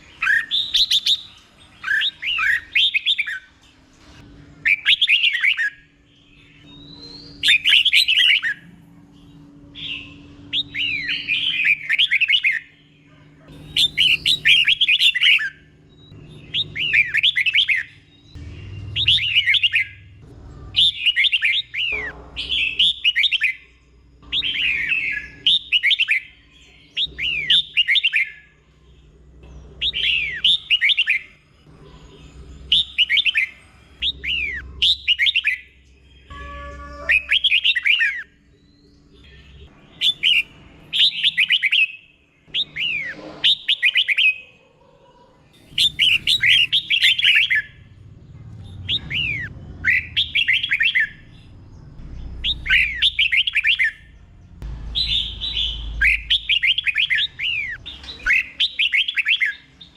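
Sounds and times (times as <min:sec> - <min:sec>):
bulbul singing: 0:00.0 - 0:44.6, 0:45.5 - 0:59.9.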